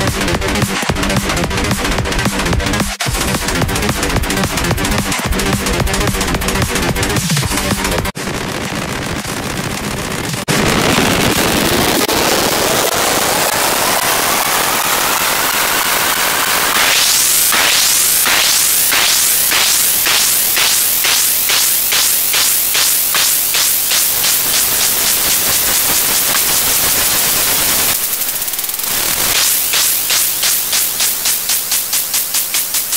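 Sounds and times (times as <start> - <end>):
harsh distorted electronic noise: 0.0 - 32.9.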